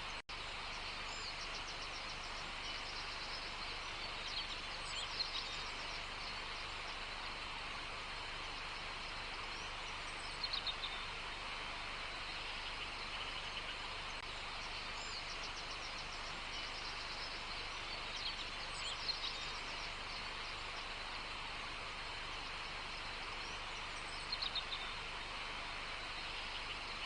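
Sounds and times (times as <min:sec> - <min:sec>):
birds chirping: 0:00.0 - 0:27.0
steady outdoor hiss: 0:00.0 - 0:27.0.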